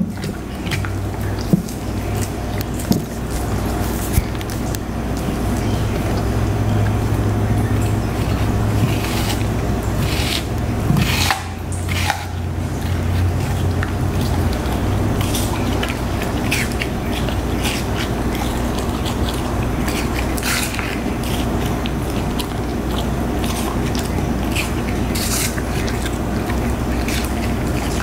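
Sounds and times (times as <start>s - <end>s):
dog crunching apple: 0.0s - 28.0s
steady low hum: 0.0s - 28.0s.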